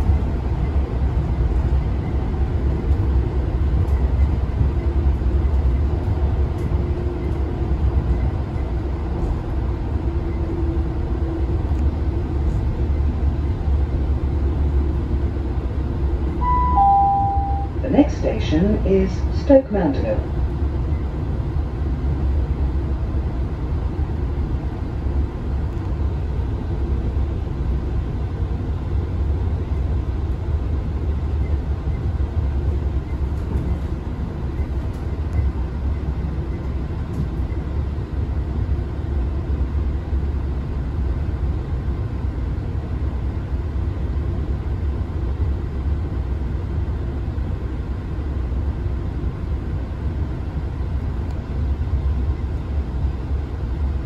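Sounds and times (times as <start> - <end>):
train interior low rumble: 0.0 - 54.0.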